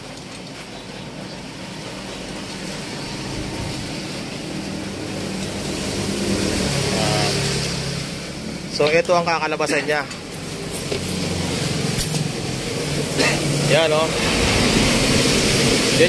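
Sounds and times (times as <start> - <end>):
vehicle engine and tyre noise: 0.0 - 16.0.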